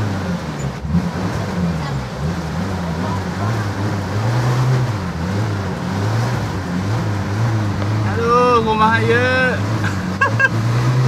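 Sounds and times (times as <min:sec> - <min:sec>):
vehicle engine humming: 0:00.0 - 0:11.0
water rushing and splashing: 0:00.0 - 0:11.0.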